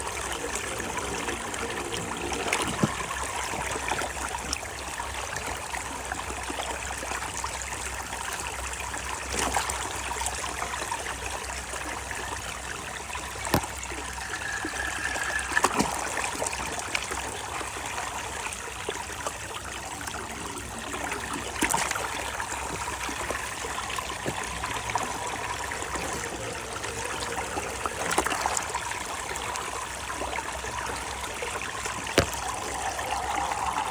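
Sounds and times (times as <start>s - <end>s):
water trickling: 0.0s - 33.9s.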